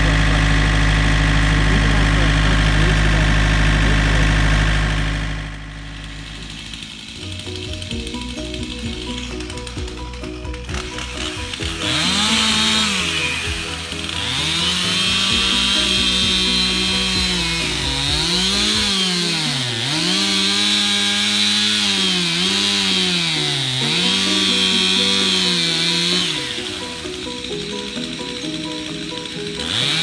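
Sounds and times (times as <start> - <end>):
chainsaw cutting through trunk: 0.0 - 30.0.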